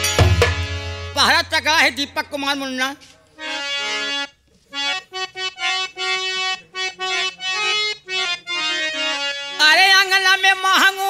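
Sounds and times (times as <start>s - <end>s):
harmonium playing reedy notes: 0.0s - 11.0s.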